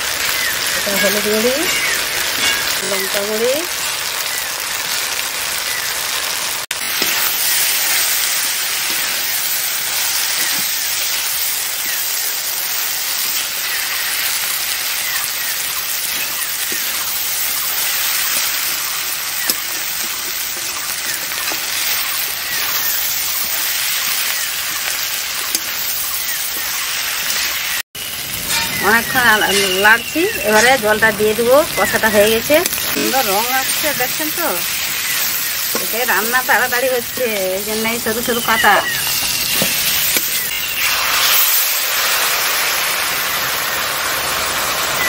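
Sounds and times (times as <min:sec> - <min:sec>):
food sizzling in a wok: 0:00.0 - 0:45.0.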